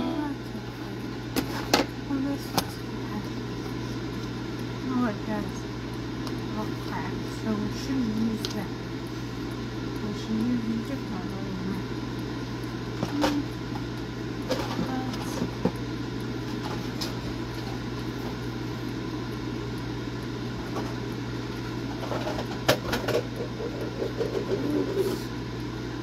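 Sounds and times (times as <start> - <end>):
air fryer fan hum: 0.0 - 26.0.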